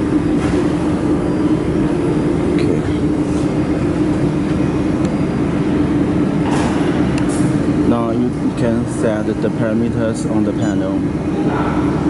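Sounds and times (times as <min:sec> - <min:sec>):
dust collection fan blowing: 0:00.0 - 0:12.0.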